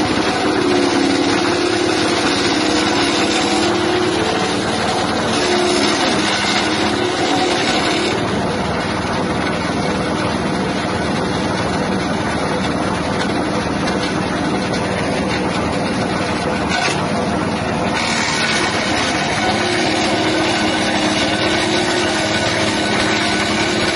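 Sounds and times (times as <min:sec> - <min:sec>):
shredder engine running: 0:00.0 - 0:23.9.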